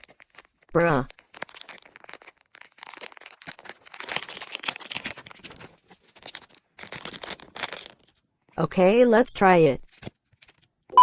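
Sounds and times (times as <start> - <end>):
wrapping crinkling and tearing: 0.0 - 8.3, 9.8 - 10.8.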